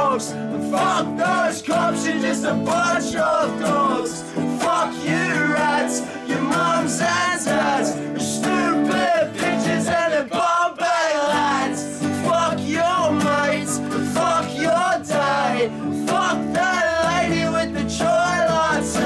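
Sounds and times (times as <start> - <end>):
guitar: 0.0 - 19.0
person singing: 0.0 - 19.0.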